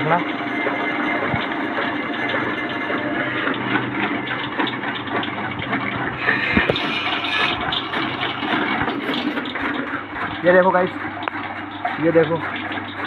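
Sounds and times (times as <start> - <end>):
motor hum: 0.0 - 13.0.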